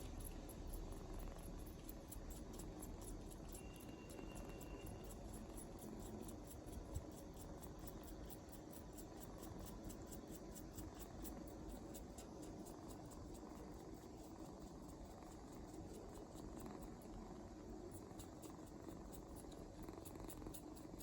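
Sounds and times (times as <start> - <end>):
kitten purring: 0.0 - 21.0
rhythmic sucking clicks: 0.0 - 21.0.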